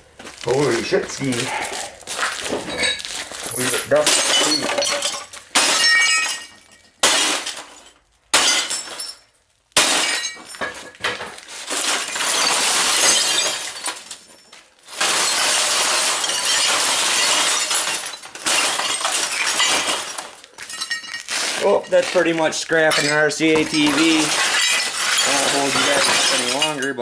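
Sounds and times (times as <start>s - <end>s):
broken glass crunching and clinking: 0.2s - 27.0s.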